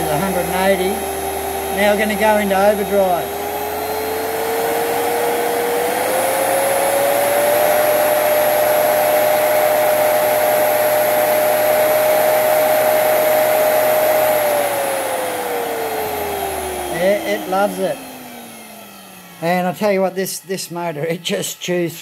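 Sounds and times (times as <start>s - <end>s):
electric motor whine: 0.0s - 21.9s.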